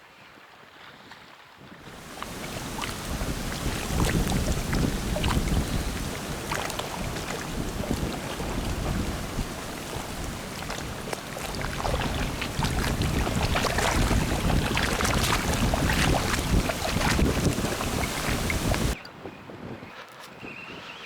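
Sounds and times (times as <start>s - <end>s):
water splashing: 1.8s - 19.0s
wind buffeting microphone: 1.8s - 19.9s.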